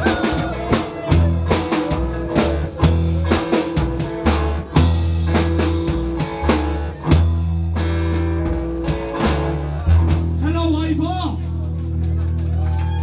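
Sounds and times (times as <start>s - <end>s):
double bass notes: 0.0s - 12.2s
rockabilly band playing: 0.0s - 13.0s.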